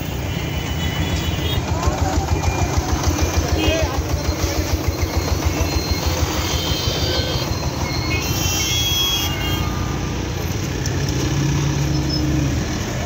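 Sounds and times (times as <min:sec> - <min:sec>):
traffic din: 0:00.0 - 0:13.0.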